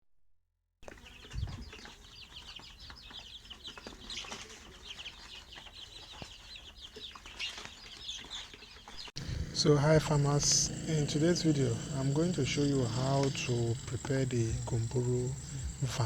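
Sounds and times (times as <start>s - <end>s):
chickens chirping: 1.0s - 16.0s.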